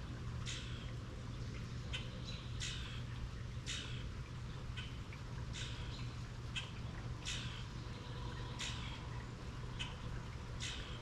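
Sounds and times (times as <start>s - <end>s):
songbird chirping: 0.0s - 11.0s
steady low hum: 0.0s - 11.0s.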